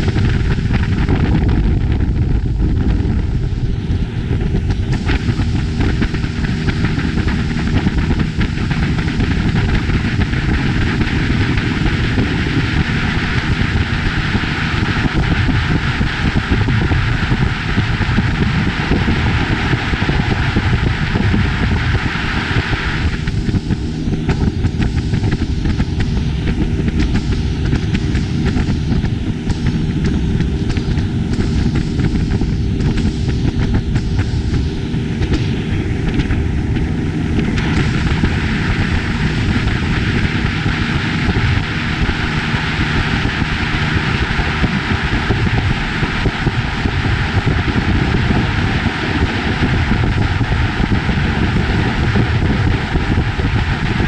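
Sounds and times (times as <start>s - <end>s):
motorboat engine rumble: 0.0s - 54.0s.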